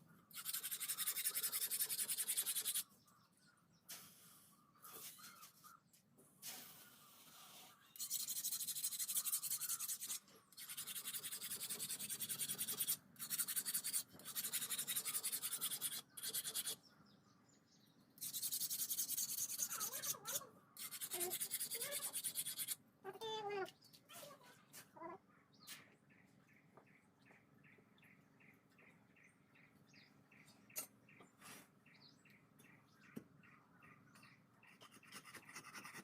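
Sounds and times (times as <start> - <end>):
faint birds chirping: 0.0 - 36.0.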